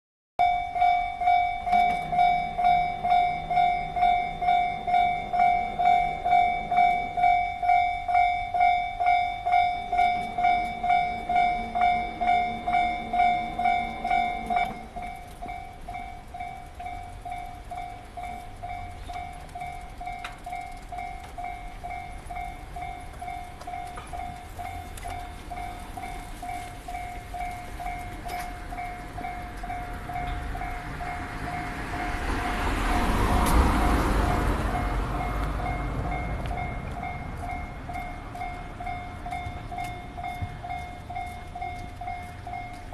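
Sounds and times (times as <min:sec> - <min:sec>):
level crossing warning bell: 0:00.4 - 0:42.9.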